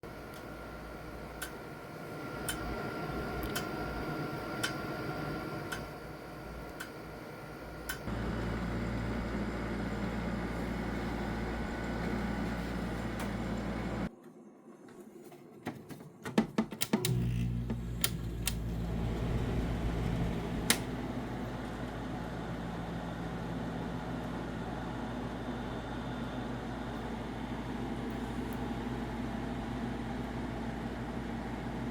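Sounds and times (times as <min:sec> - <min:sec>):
air conditioner hum: 0:00.0 - 0:14.1, 0:16.2 - 0:31.9.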